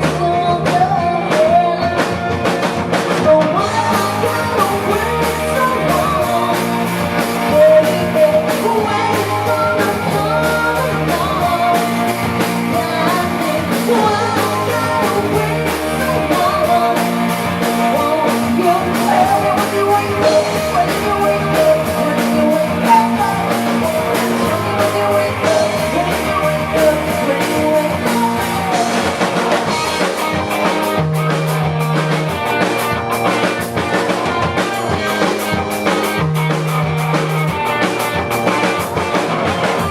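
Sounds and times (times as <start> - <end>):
person singing: 0.0 - 31.0, 32.4 - 35.6
live rock band playing: 0.0 - 39.9.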